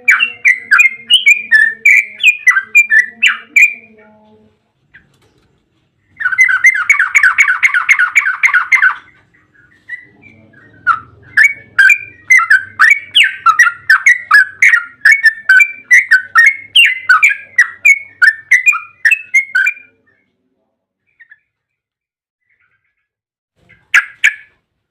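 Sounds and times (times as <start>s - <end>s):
bird singing: 0.0s - 21.6s.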